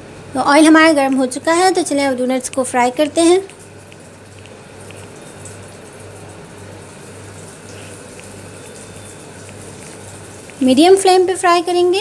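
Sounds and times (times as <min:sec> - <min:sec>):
food deep-frying in oil: 0:01.3 - 0:12.0.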